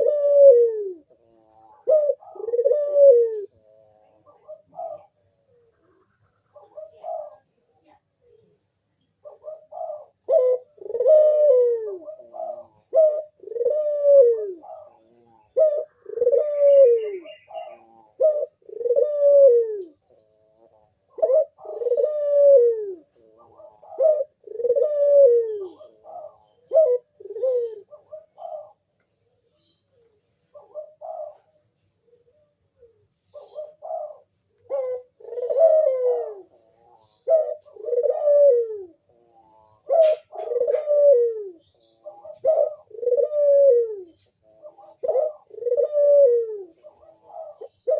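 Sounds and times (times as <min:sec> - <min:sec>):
dove cooing: 0:00.0 - 0:47.9.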